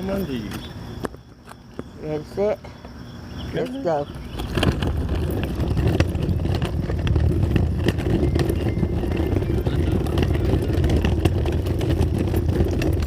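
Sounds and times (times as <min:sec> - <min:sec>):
small wheels rolling on pavement: 0:00.0 - 0:13.0.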